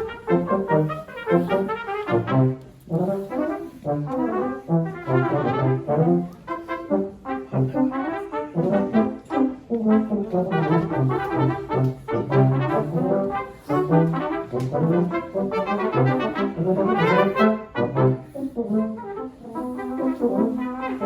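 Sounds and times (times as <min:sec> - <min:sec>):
brass quartet playing: 0:00.0 - 0:21.0.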